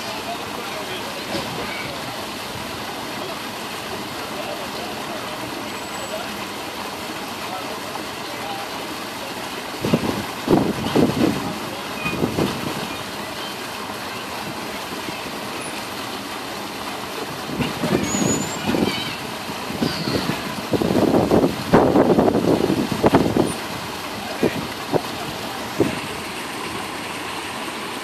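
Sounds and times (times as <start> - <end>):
distant people talking: 0.0 - 28.0.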